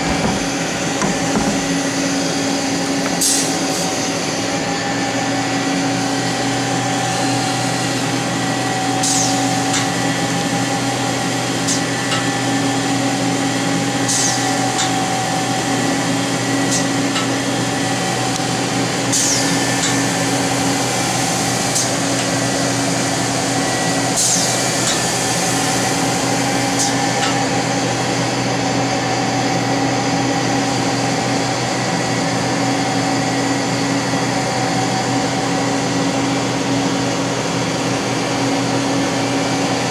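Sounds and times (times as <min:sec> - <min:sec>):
lathe machine hum: 0:00.0 - 0:39.9.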